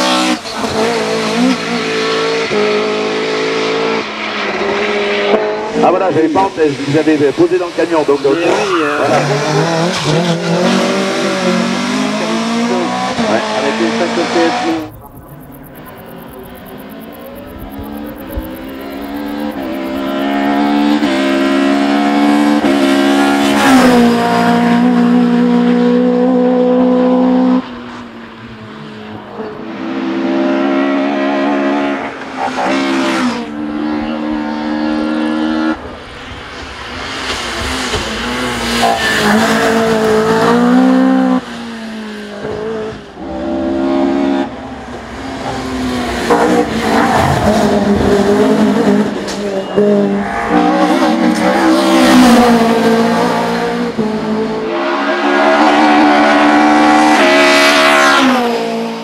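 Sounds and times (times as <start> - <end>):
race car engine revving hard: 0.0 - 27.9, 29.2 - 35.9, 36.9 - 59.0.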